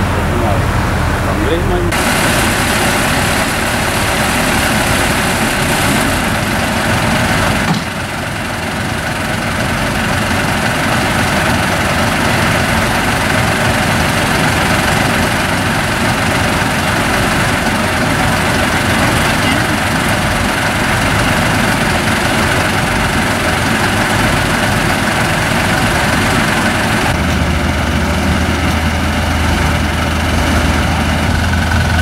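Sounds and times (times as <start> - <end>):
tank engine idling: 0.0 - 32.0.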